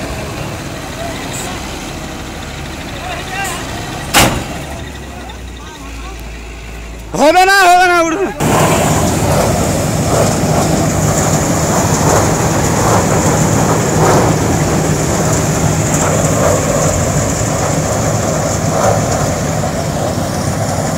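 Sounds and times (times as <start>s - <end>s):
combine harvester drone: 0.0s - 20.9s.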